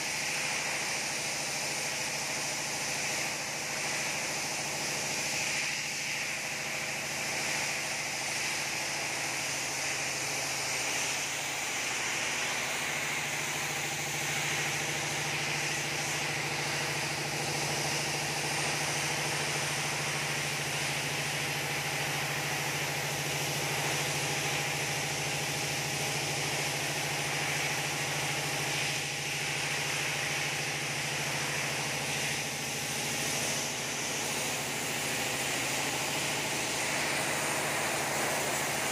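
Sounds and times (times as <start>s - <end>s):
spray gun hissing: 0.0s - 38.9s.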